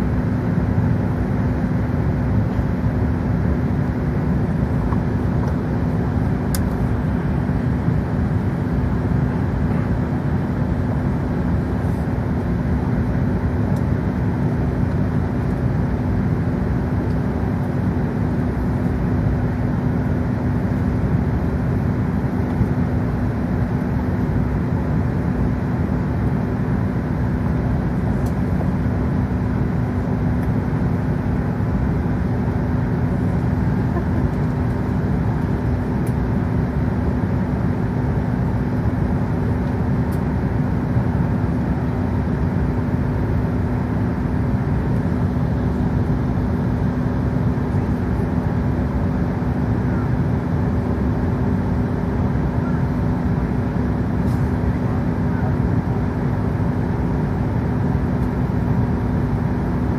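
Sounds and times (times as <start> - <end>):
cabin air hum: 0.0 - 59.9
jet engines at taxi power: 0.0 - 59.9.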